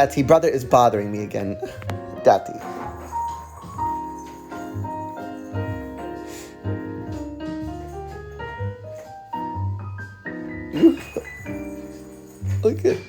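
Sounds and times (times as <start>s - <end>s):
jazz piano: 0.0s - 13.0s.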